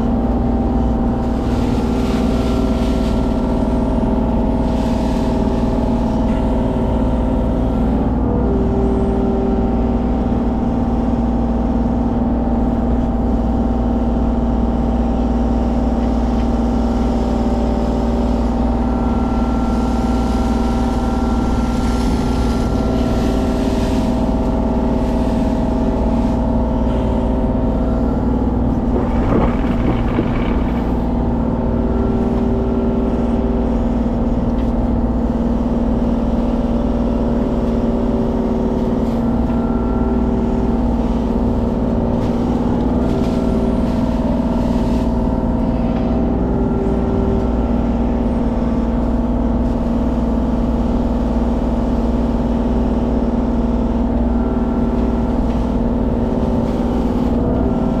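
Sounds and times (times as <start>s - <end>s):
diesel engine running: 0.0s - 58.0s
hydraulic whine: 0.0s - 58.0s.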